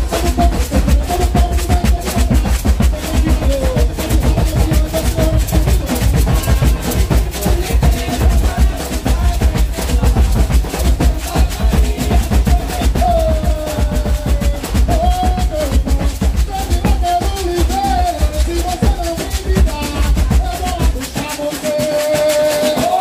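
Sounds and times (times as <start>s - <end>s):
drums and percussion beat: 0.0s - 23.0s.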